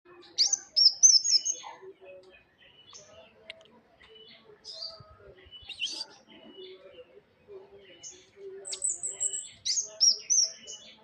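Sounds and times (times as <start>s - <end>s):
songbird chirping: 0.1s - 11.0s.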